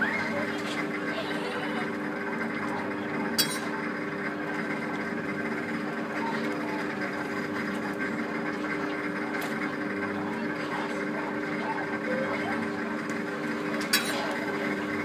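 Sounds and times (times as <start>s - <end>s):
monorail drive hum and whir: 0.0s - 15.0s.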